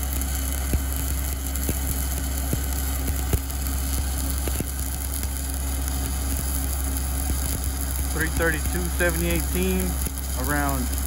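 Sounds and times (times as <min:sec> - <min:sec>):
spatter pops: 0:00.0 - 0:10.4
welding arc crackling: 0:00.0 - 0:11.0.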